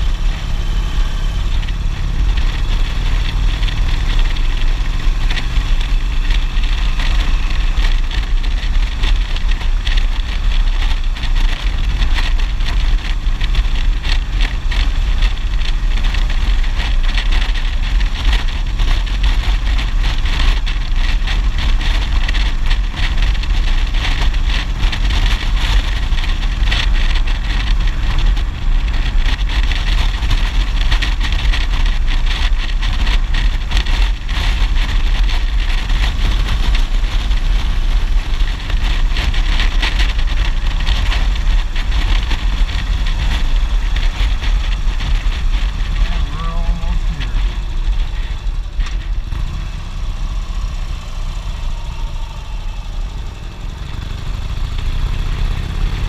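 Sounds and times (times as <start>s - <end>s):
motorcycle engine cruising: 0.0s - 56.0s
wind rumble on microphone: 0.0s - 56.0s.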